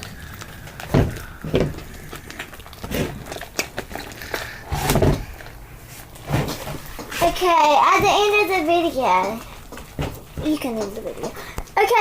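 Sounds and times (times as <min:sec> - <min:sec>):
faint slime crackling: 0:00.0 - 0:12.0
slime squishing: 0:00.0 - 0:12.0.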